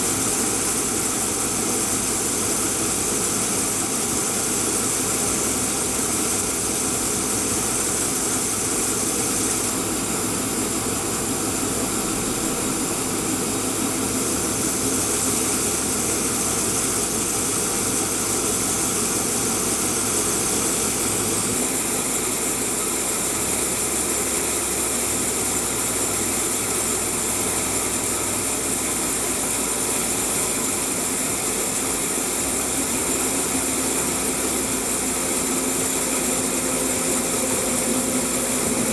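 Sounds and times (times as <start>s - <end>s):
bandsaw running: 0.0s - 38.9s.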